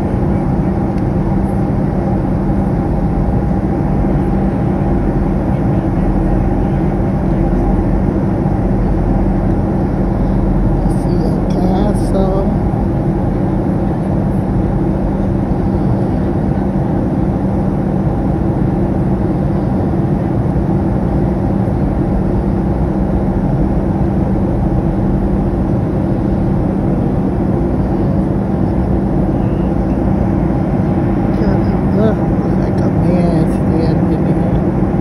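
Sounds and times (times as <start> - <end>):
jet engines and airflow rush: 0.0 - 35.0
steady low hum: 0.0 - 35.0.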